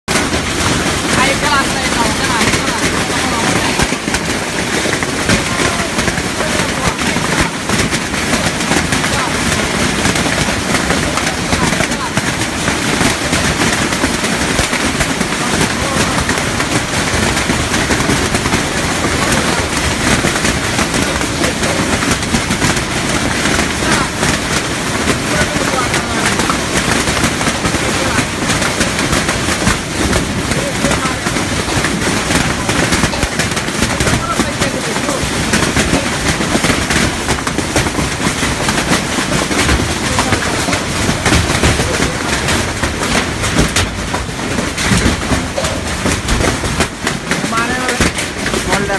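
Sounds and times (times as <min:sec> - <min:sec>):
hailstones pelting down: 0:00.0 - 0:48.9.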